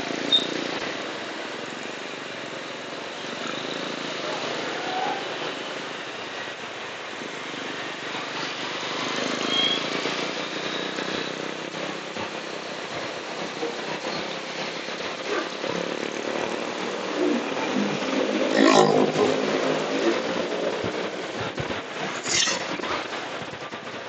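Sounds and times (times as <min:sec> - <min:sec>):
motorcycle engine: 0:00.0 - 0:24.0
road noise with rushing hiss: 0:00.0 - 0:24.0.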